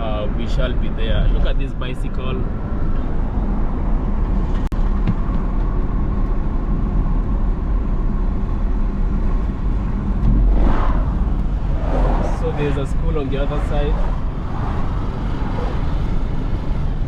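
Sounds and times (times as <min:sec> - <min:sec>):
road vehicle rumbling: 0:00.0 - 0:17.0.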